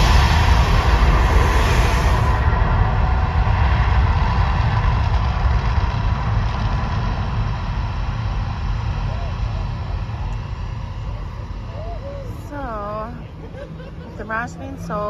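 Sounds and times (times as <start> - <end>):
deep steady rumble: 0.0 - 15.0.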